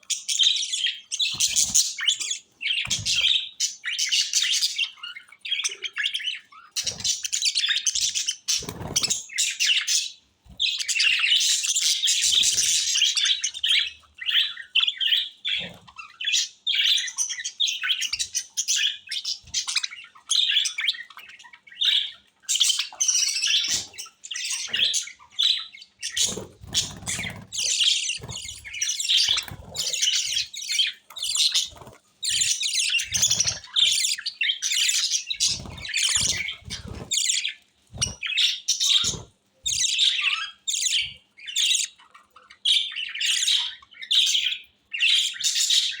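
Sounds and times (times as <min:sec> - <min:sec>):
parrots chirping: 0:00.0 - 0:46.0.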